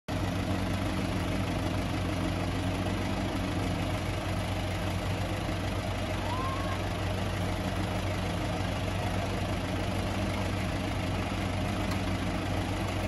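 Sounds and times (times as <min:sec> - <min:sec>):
wood chipper engine idling: 0:00.1 - 0:13.0.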